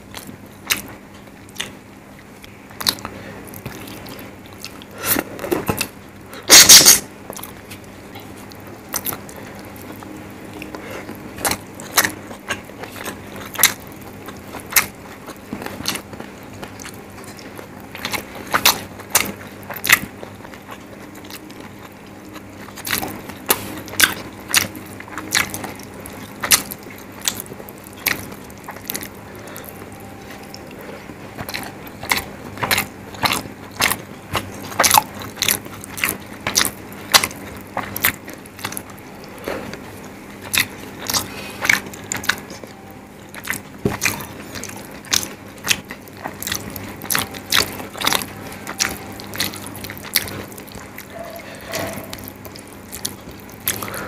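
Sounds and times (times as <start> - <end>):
faint low hum: 0.0 - 54.0
wet chewing mouth clicks: 2.4 - 54.0.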